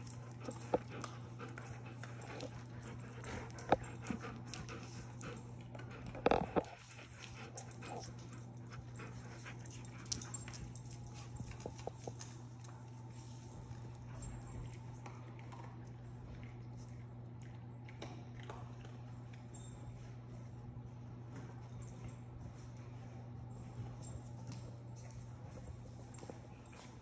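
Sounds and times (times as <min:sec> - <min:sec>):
dog claws clicking on floor: 0:00.0 - 0:27.0
steady low hum: 0:00.0 - 0:27.0.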